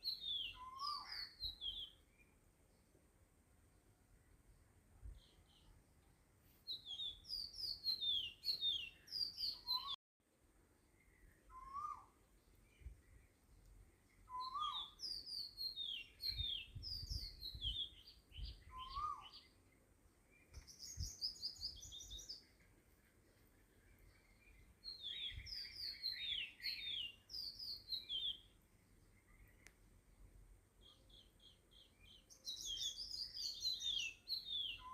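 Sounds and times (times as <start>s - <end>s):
small birds chirping: 0.0s - 10.0s, 10.7s - 34.9s.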